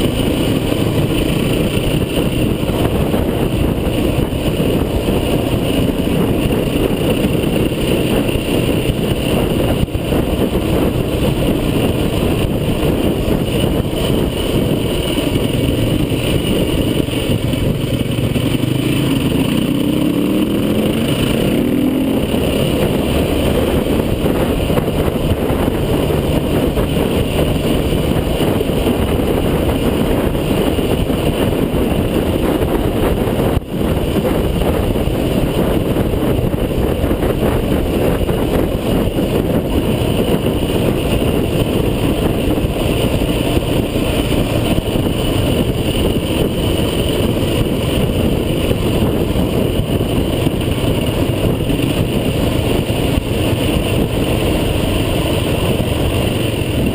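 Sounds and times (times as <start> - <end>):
off-road vehicle engine running: 0.0 - 56.9.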